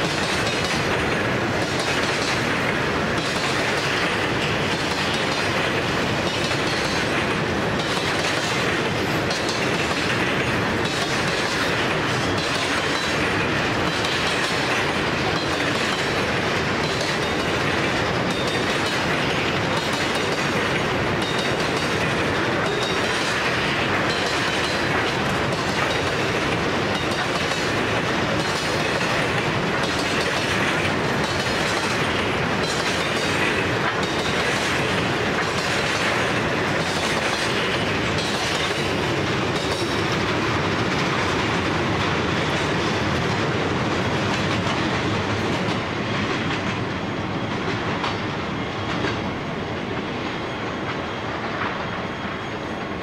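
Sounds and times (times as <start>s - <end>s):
wheels clicking over rail joints: 0.0s - 46.8s.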